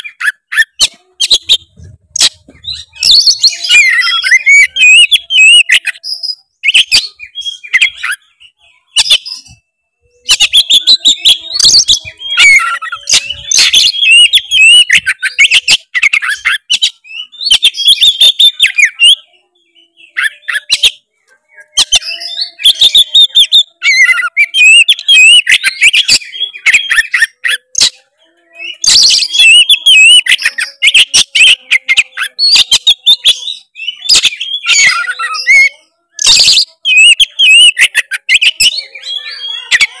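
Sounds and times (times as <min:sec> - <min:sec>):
bird singing whistles and warbles: 0:00.0 - 0:40.0.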